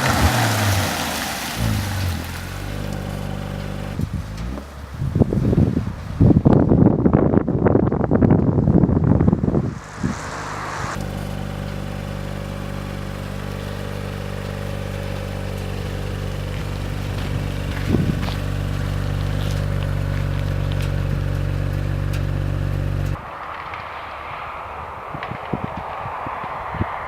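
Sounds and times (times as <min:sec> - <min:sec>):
car engine idling: 0:00.0 - 0:23.2.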